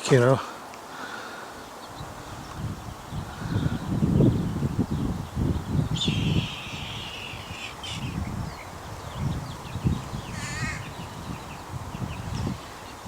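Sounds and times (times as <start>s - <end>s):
harsh bird calls: 0.0s - 13.0s
wind buffeting microphone: 1.8s - 13.0s.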